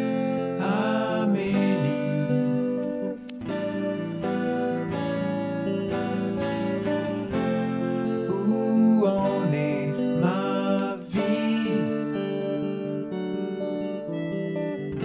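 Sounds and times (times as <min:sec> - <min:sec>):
gentle acoustic guitar song: 0:00.0 - 0:15.0.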